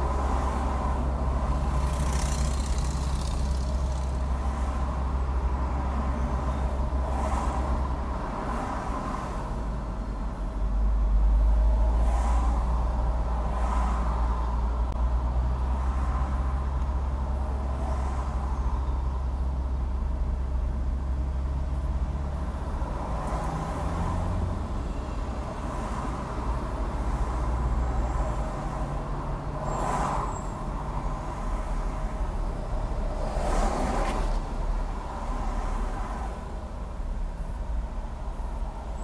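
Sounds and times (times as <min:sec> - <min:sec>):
vehicles swishing past: 0:00.0 - 0:09.5, 0:11.4 - 0:18.9, 0:21.4 - 0:39.0.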